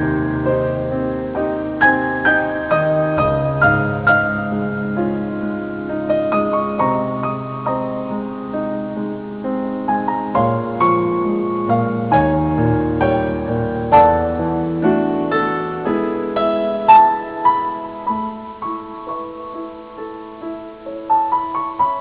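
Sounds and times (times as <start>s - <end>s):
slow gentle solo piano: 0.0s - 22.0s.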